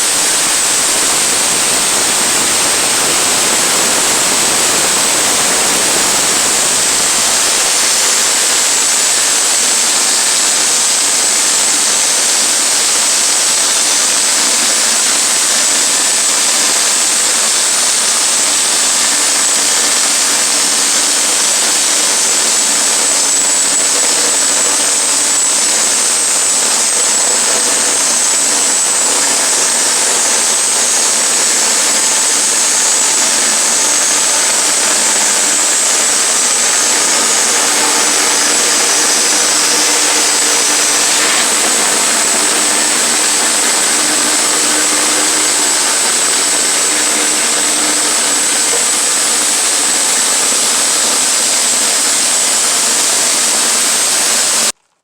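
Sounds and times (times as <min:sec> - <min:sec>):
sawmill running with high whine: 0:00.0 - 0:54.8.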